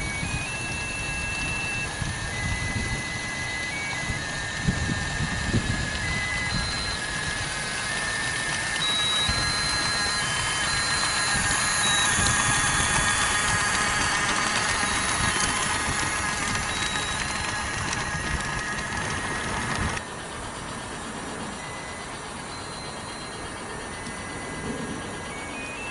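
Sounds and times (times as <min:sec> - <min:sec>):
thin electronic tune: 0:00.0 - 0:20.0, 0:21.5 - 0:25.9
model train running on track: 0:00.0 - 0:25.9.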